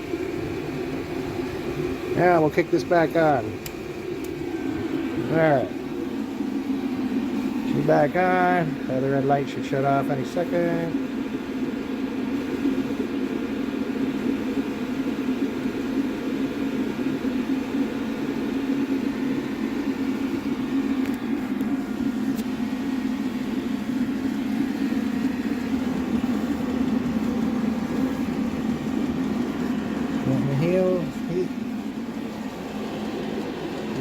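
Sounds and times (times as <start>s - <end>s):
diesel air heater rushing hum: 0.0s - 34.0s.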